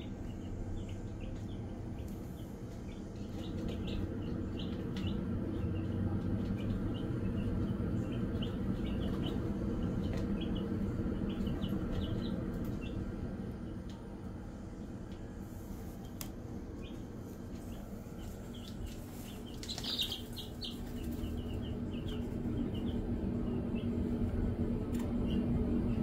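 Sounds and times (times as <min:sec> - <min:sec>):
chicks peeping: 0:00.0 - 0:26.0
steady low hum: 0:00.0 - 0:26.0.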